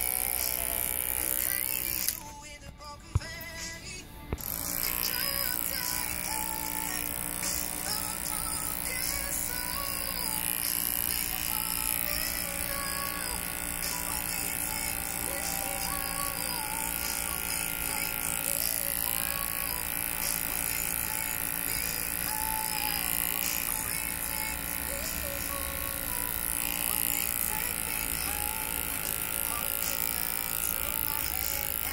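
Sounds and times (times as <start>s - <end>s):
electric hair clippers buzzing: 0.0s - 2.5s, 3.1s - 31.9s.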